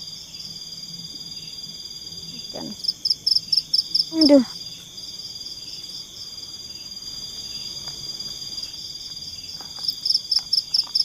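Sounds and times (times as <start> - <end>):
insect trill: 0.0 - 11.0
pulsing insect chirp: 0.0 - 11.0.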